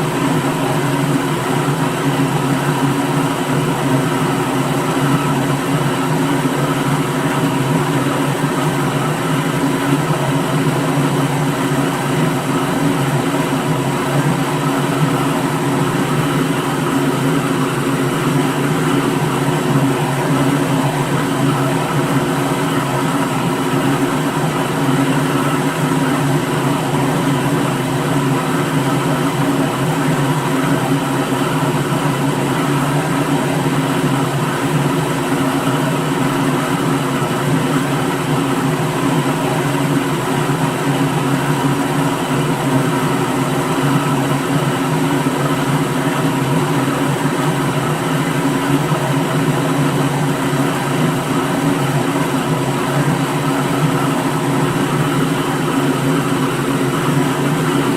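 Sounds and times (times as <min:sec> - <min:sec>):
blender motor running: 0:00.0 - 0:57.9.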